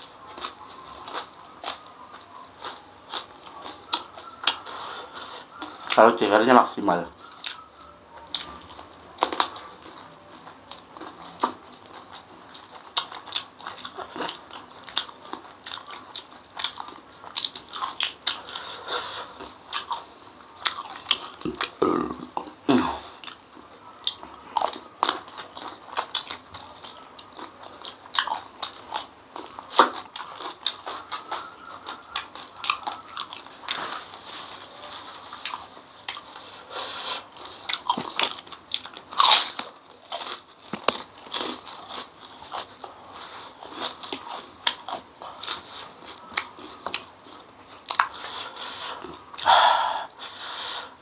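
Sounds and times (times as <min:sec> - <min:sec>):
person chewing close to microphone: 0:00.0 - 0:51.0.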